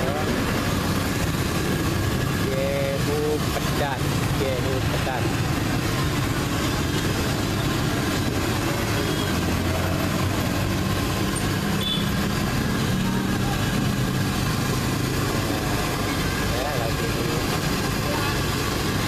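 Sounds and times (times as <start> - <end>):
food deep-frying in bubbling oil: 0.0 - 19.0
street traffic: 0.0 - 19.0.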